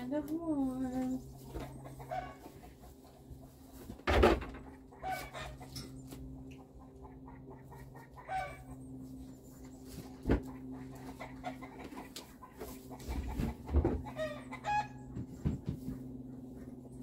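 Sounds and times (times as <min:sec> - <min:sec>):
low hum: 0:00.0 - 0:17.0
chickens clucking: 0:00.2 - 0:17.0.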